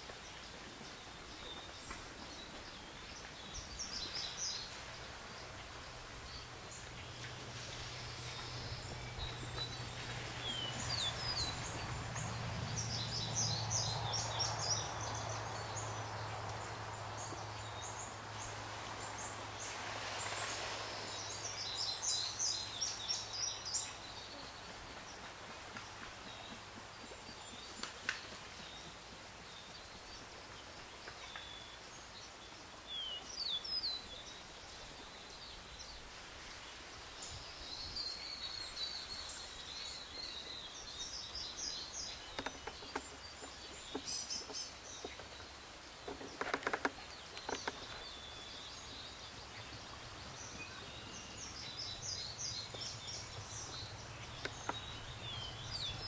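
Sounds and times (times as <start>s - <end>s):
small birds chirping: 0.0s - 36.1s, 37.1s - 56.0s
outdoor background hiss: 0.0s - 56.0s.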